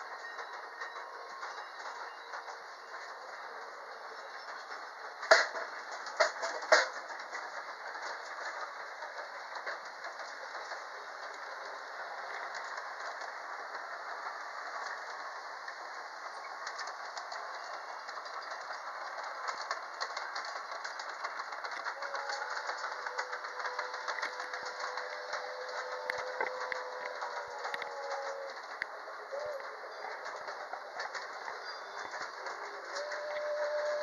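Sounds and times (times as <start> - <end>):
model trains running on track: 0.0 - 34.0.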